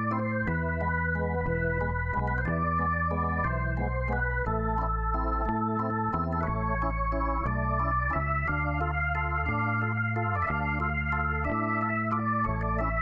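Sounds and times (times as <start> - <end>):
bass line: 0.0 - 13.0
organ-like keyboard chords: 0.0 - 13.0.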